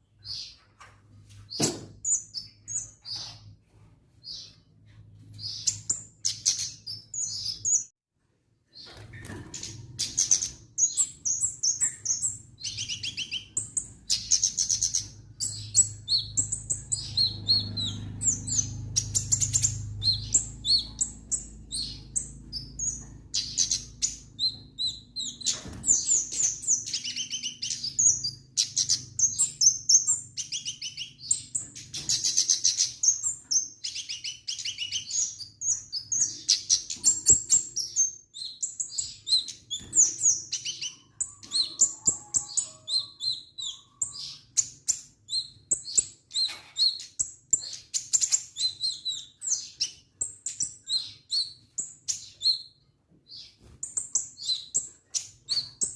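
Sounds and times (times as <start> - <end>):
songbird chirping and trilling: 4.2 - 8.0, 8.7 - 55.9.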